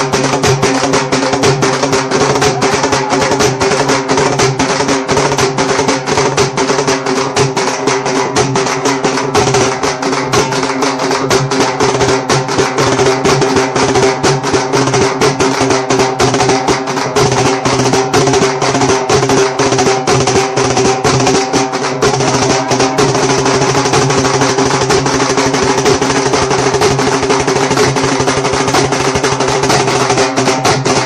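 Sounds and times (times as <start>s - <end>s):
fast even drumbeat: 0.0s - 31.0s.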